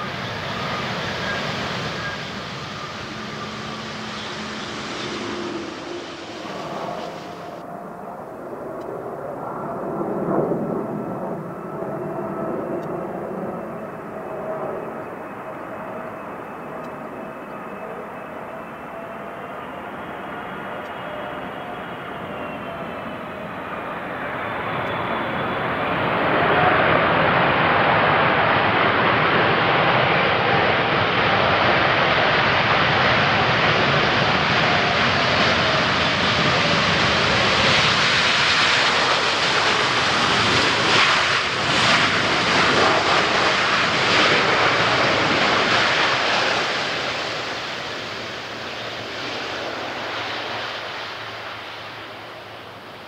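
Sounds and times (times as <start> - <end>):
jet engines in reverse thrust: 0.0 - 53.0.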